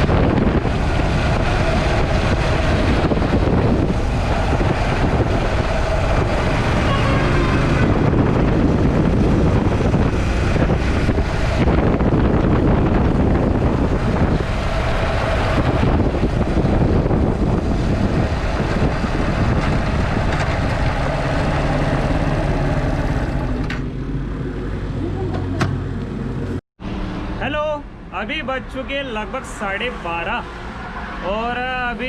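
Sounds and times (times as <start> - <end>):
wind rushing over microphone: 0.0 - 26.6
motorcycle engine drone: 0.0 - 28.4.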